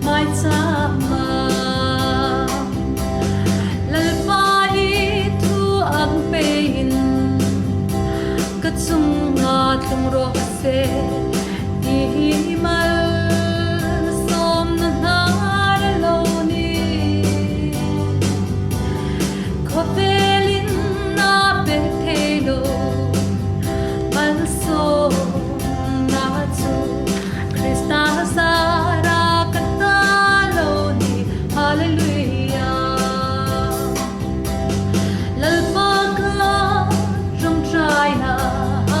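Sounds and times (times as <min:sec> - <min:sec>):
person singing: 0:00.0 - 0:18.3, 0:19.2 - 0:39.0
guitar: 0:00.0 - 0:39.0
steady bass beat: 0:00.0 - 0:39.0.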